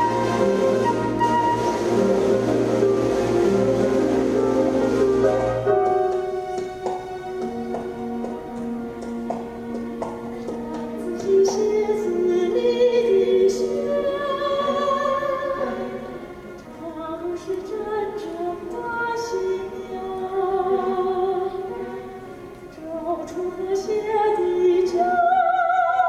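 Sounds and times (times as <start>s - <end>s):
instrumental accompaniment: 0.0s - 25.0s.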